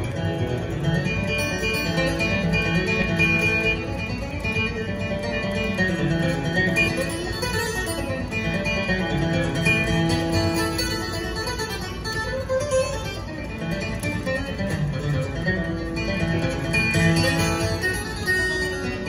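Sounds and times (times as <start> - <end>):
acoustic guitar flatpicking: 0.0 - 19.0.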